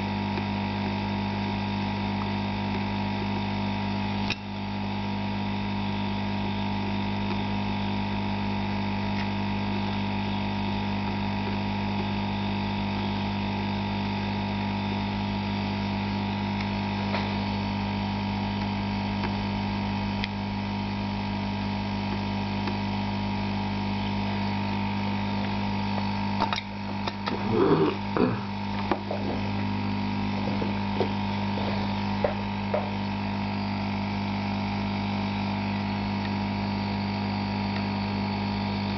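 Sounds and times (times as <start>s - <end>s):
hot-air blower humming: 0.0s - 38.9s.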